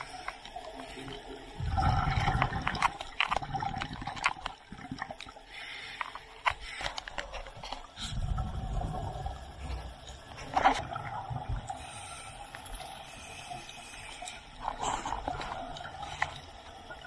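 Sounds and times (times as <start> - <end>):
underwater regulator bubbles gurgling: 0.0 - 17.0.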